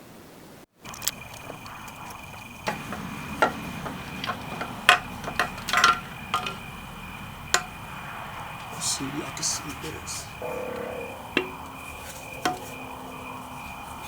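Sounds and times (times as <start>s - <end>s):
low hiss: 0.8s - 14.0s.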